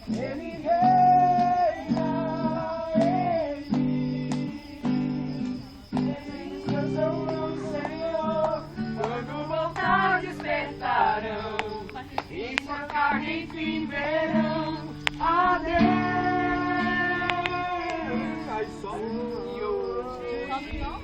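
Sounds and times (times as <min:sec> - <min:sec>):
people singing worship song: 0:00.0 - 0:21.0
strummed acoustic guitar: 0:00.0 - 0:21.0.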